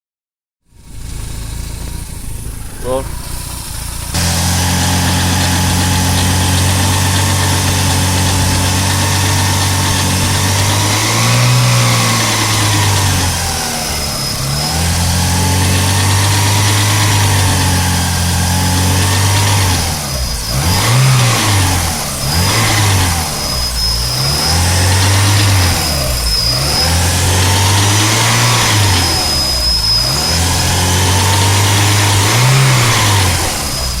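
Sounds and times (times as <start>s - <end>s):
car engine revving: 0.6s - 34.0s
clunky engine noise: 0.6s - 34.0s
thin high whistle: 4.6s - 34.0s.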